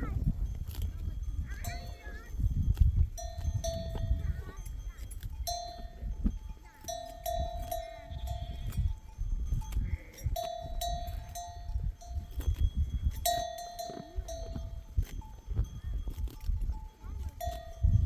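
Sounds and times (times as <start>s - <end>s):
sheep bells clanking: 0.0s - 18.0s.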